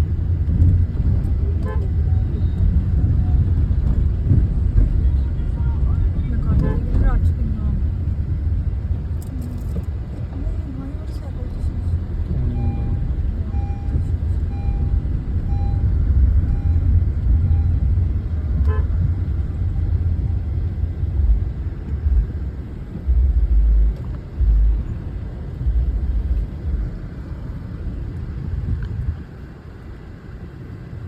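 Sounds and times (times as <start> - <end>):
tractors rumbling: 0.0 - 30.1.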